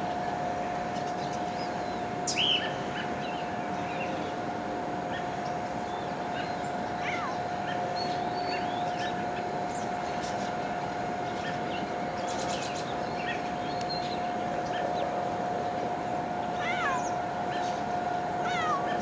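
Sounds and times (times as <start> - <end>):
steady hum: 0.0 - 19.0
birds chirping: 0.1 - 19.0.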